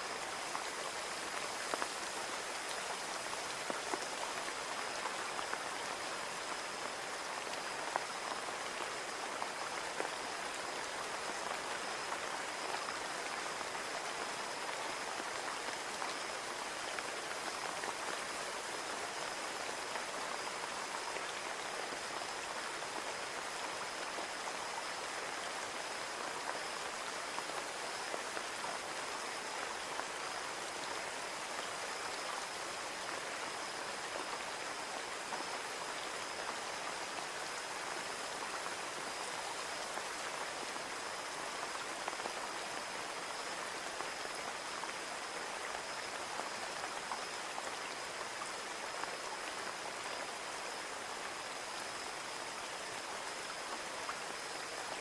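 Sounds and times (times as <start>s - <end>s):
rain pattering on a window: 0.1s - 54.9s.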